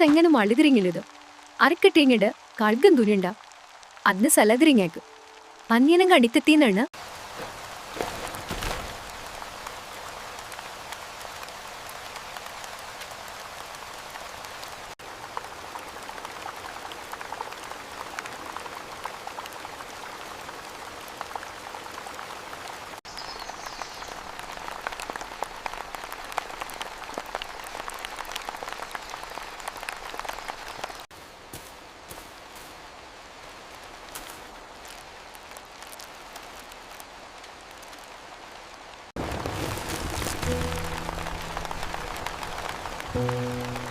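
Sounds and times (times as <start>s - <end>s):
raindrops ticking: 0.0s - 22.3s, 23.0s - 31.1s, 33.7s - 43.9s
steady rain falling: 0.0s - 43.9s.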